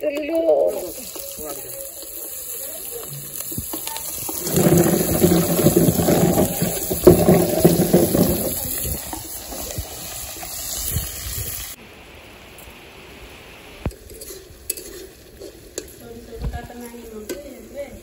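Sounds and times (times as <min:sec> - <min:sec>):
vegetables sizzling in hot oil: 0:00.0 - 0:11.8, 0:13.8 - 0:18.0.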